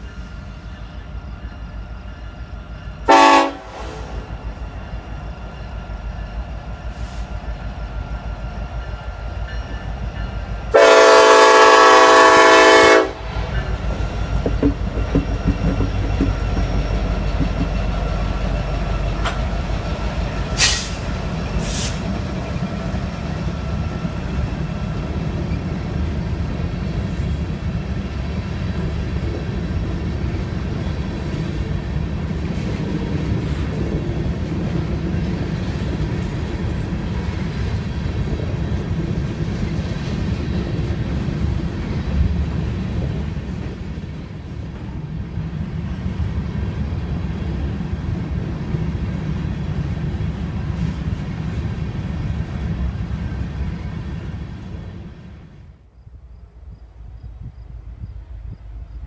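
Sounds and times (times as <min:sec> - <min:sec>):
diesel locomotives passing: 0:00.0 - 0:59.0.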